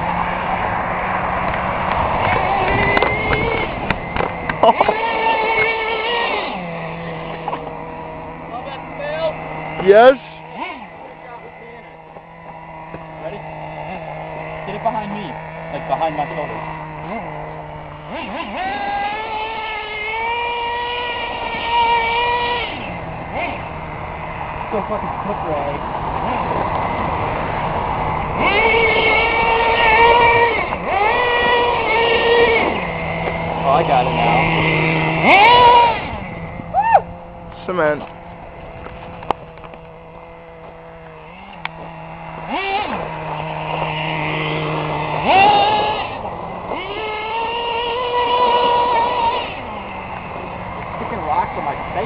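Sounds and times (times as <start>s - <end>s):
small engine high-pitched whine: 0.0s - 52.0s.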